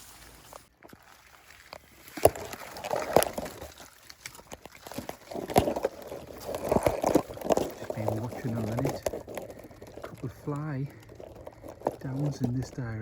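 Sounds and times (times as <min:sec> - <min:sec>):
footsteps through undergrowth: 0:00.0 - 0:13.0.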